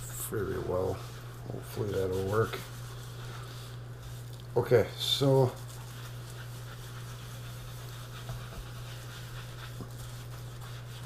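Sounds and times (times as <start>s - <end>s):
steady low hum: 0.0s - 11.0s
paper towel rubbing wood: 0.1s - 11.0s.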